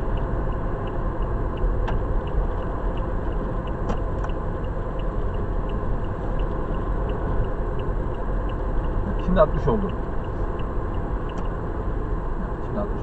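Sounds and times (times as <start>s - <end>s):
car tyre and engine noise: 0.0s - 13.0s
turn signal ticking: 0.0s - 13.0s.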